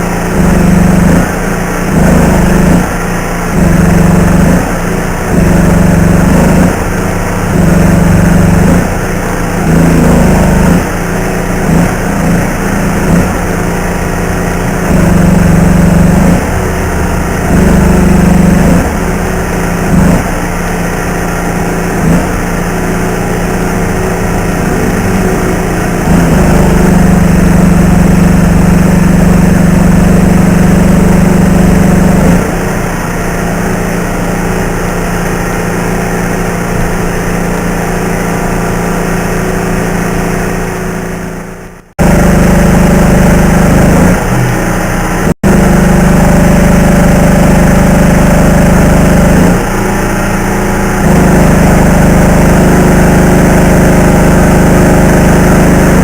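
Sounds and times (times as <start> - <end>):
welding arc crackling: 0.0 - 56.0
welding machine hum: 0.0 - 56.0.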